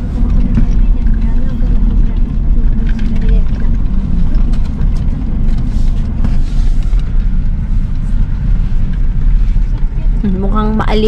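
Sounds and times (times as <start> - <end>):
car driving on stony dirt road: 0.0 - 11.0.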